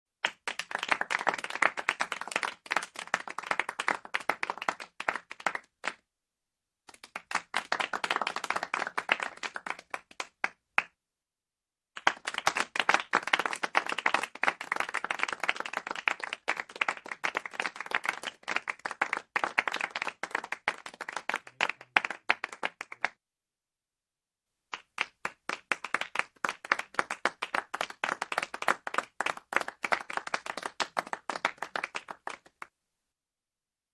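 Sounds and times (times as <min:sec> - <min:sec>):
small crowd clapping: 0:00.2 - 0:06.0, 0:06.9 - 0:11.0, 0:12.0 - 0:23.2, 0:24.7 - 0:32.8.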